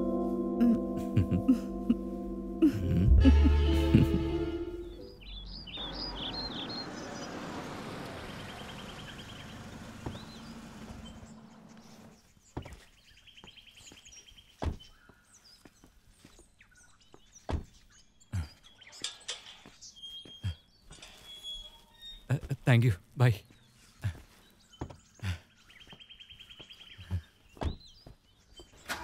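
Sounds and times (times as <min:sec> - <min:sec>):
small birds chirping: 0:04.8 - 0:29.0.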